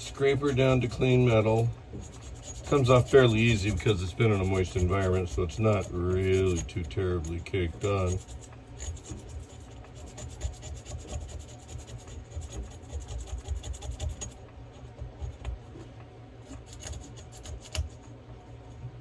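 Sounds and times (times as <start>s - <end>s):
scraper scratching metal: 0.0s - 15.5s, 16.4s - 18.2s
low steady rumble: 0.0s - 19.0s.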